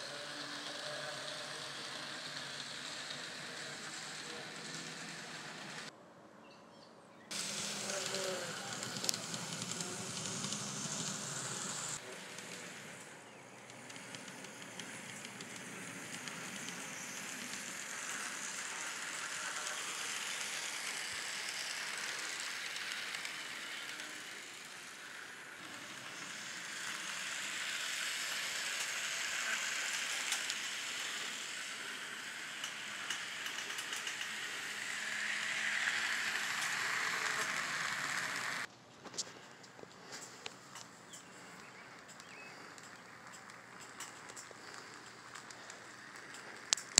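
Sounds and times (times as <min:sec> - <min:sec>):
model train rolling on track: 0:00.0 - 0:05.9, 0:07.3 - 0:46.9.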